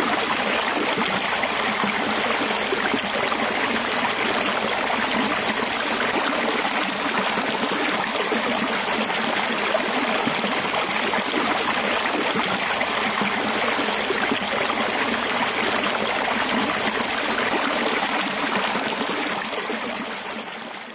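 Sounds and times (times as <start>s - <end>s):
water gushing into channel: 0.0s - 20.9s.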